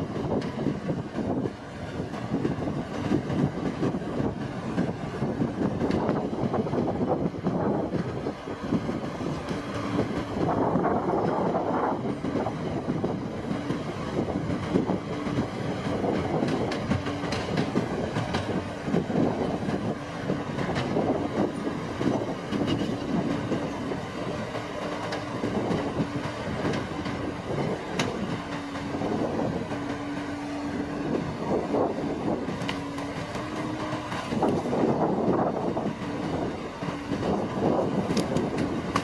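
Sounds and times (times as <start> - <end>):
harvester rumble and clatter: 0.0 - 39.0.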